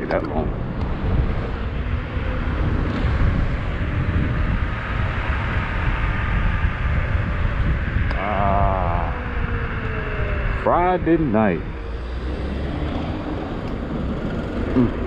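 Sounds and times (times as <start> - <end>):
faint steady whine: 0.0 - 15.0
road noise rumble: 0.0 - 15.0
wind buffeting microphone: 0.0 - 15.0.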